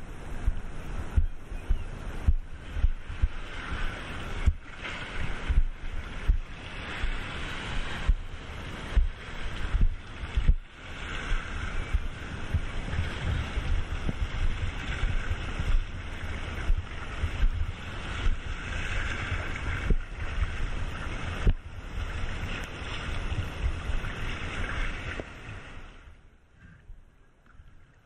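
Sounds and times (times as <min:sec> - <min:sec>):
wind buffeting microphone: 0:00.0 - 0:27.1
shallow sea water splashing: 0:00.0 - 0:28.0.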